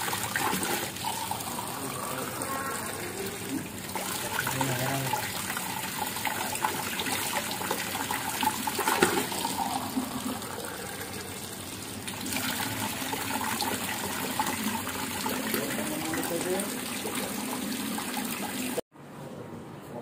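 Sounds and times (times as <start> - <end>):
water running into plastic cup: 0.0 - 18.8
water splashing: 0.0 - 18.8.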